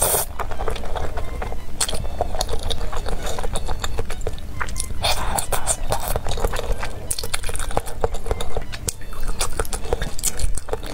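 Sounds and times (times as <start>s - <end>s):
wet chewing and lip smacks: 0.0s - 10.9s.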